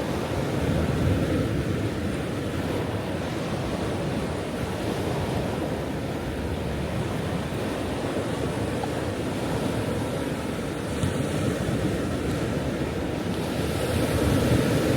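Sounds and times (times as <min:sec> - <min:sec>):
ocean waves washing on shore: 0:00.0 - 0:14.9.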